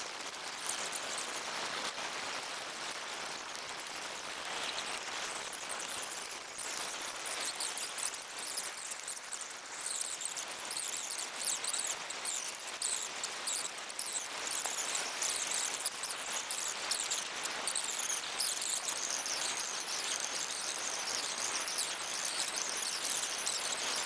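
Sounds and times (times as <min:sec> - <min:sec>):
bonfire crackling and hissing: 0:00.0 - 0:24.0.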